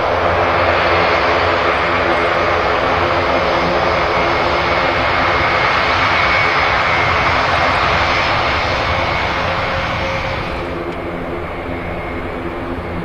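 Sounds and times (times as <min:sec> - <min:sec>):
high engine whine: 0:00.0 - 0:13.0
turboprop engines droning: 0:00.0 - 0:13.0.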